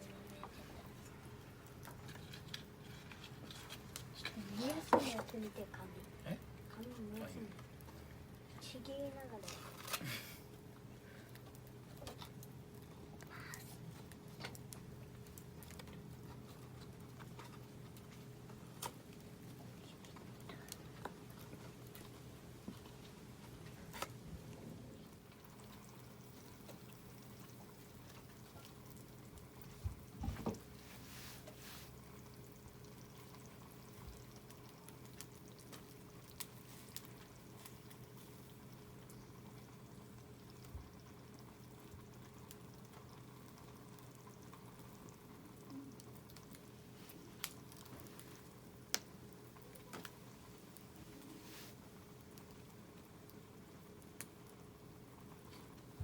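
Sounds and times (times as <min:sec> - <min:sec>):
campfire crackling: 0:00.0 - 0:56.0
food simmering in a can: 0:00.0 - 0:56.0.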